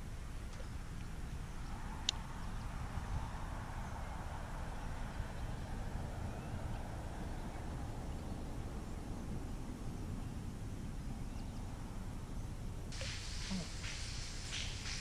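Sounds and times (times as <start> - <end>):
low wind rumble on microphone: 0.0 - 15.0.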